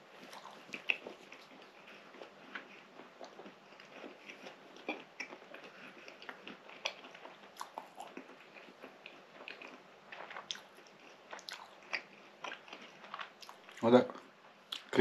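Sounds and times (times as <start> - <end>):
close-up chewing of pastry: 0.0 - 14.0.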